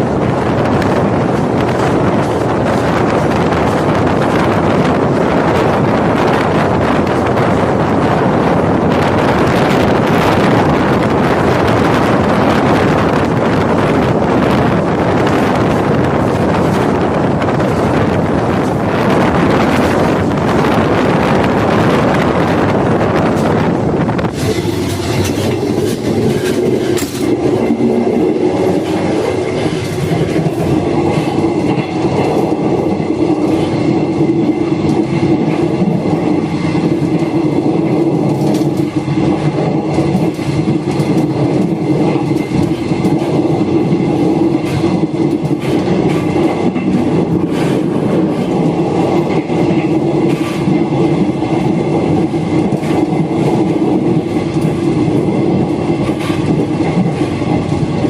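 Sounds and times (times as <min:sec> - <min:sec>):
train wheels on rail: 0:00.0 - 0:58.0.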